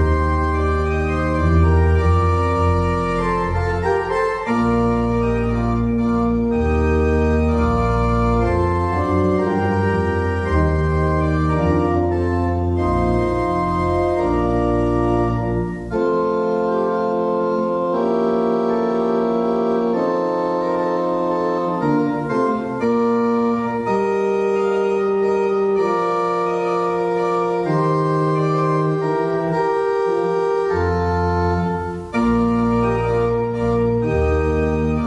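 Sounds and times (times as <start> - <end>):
church organ chords: 0.0 - 35.0
deep organ pedal bass notes: 0.0 - 35.0.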